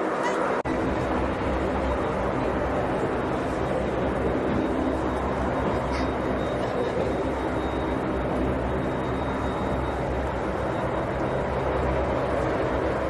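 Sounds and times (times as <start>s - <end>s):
aircraft engines droning: 0.0s - 13.0s
faint high whine: 0.0s - 13.0s.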